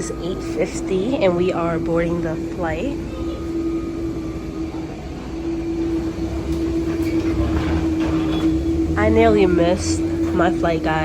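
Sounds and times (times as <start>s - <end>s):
low rumble: 0.0s - 11.0s
steady mechanical hum: 0.0s - 11.0s.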